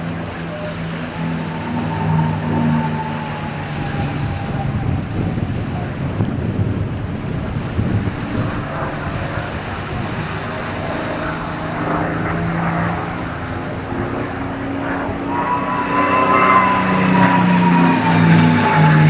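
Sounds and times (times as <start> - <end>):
aircraft engine rush: 0.0 - 19.0
whining tone: 0.0 - 19.0
wind buffeting microphone: 0.0 - 19.0.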